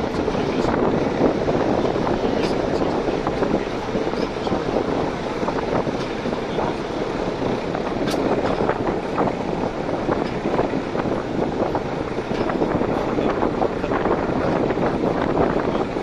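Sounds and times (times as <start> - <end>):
rush of wind: 0.0 - 16.0
train wheels rumbling on rails: 0.0 - 16.0.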